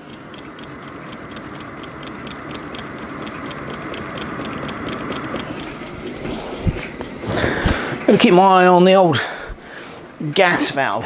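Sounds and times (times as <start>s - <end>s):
engine mechanism ticking: 0.0s - 9.3s
gas burner hissing: 0.0s - 11.0s.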